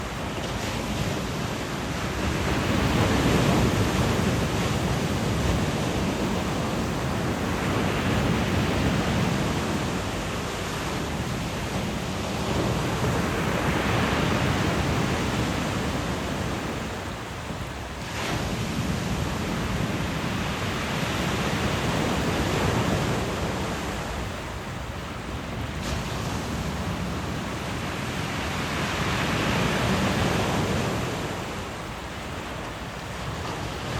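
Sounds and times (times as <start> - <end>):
sea waves breaking: 0.0 - 33.9
stream rushing: 0.0 - 33.9.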